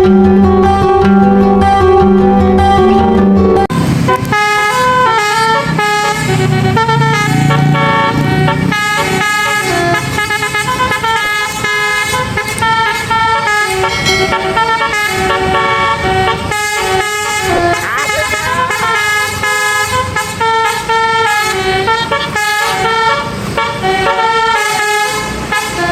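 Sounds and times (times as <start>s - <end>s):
multi-tone bus horn melody: 0.0s - 25.9s.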